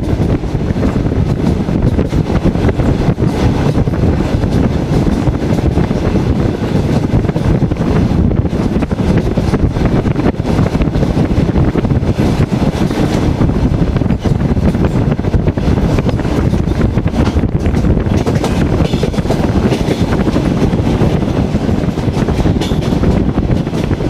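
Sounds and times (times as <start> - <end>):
train rumbling on rails: 0.0 - 24.0
wind buffeting microphone: 0.0 - 24.0.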